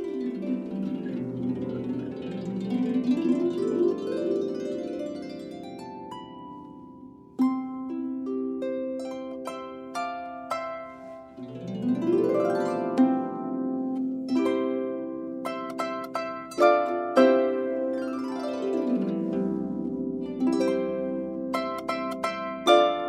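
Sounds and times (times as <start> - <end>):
harp glissando: 0.0 - 23.0
harp playing: 0.0 - 23.0.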